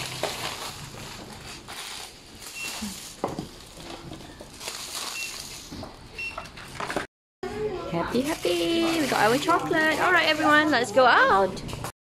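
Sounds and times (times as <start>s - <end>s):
plastic bag rustling: 0.0s - 7.1s, 8.1s - 11.3s.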